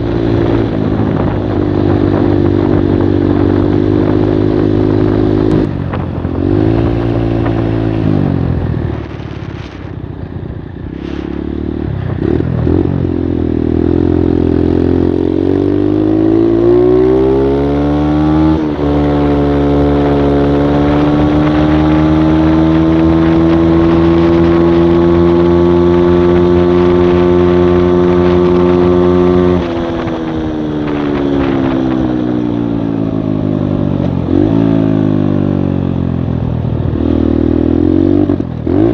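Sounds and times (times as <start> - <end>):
moped engine revving: 0.0 - 38.9.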